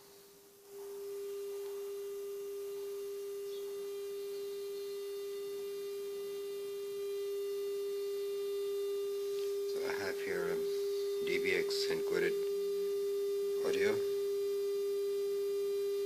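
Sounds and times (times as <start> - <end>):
sine test tone: 0.0 - 16.0.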